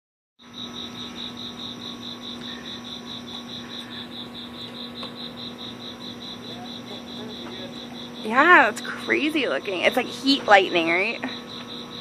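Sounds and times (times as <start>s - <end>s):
crickets chirping: 0.4s - 12.0s
steady low hum: 0.4s - 12.0s.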